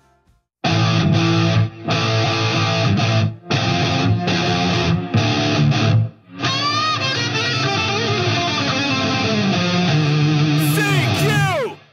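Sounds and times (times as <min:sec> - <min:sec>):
guitar-led music: 0:00.0 - 0:11.9.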